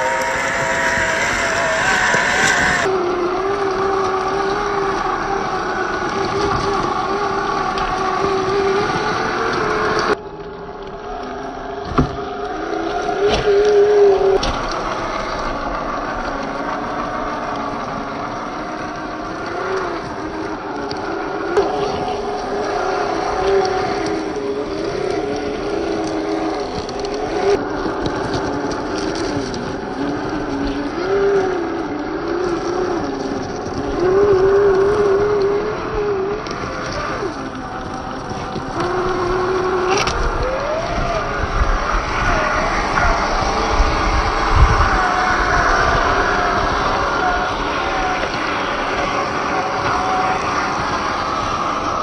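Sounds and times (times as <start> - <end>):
electric motor and gearbox whine: 0.0 - 52.0.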